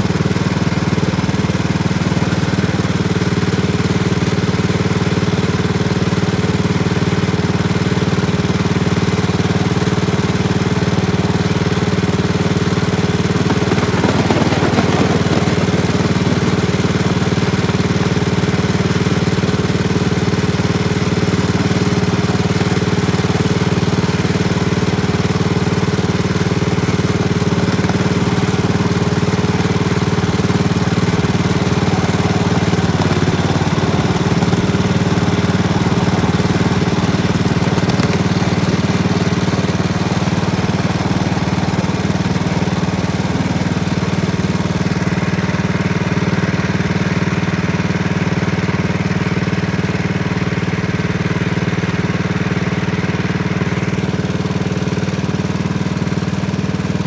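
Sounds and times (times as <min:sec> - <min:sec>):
small locomotive engine running: 0:00.0 - 0:57.0.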